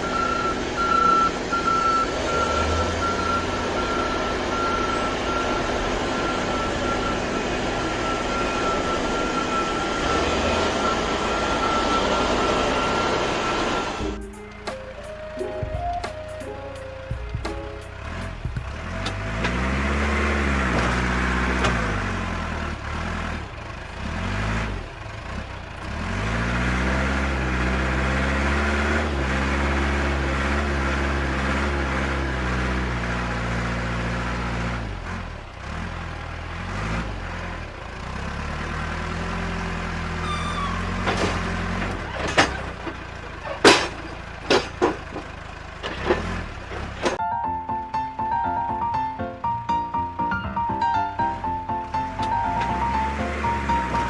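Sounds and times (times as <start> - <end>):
truck engine revving: 0.0 - 47.2, 51.2 - 54.0.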